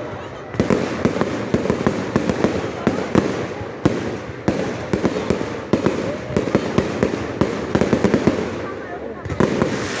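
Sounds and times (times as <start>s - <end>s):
fireworks bangs and cracks: 0.0s - 10.0s.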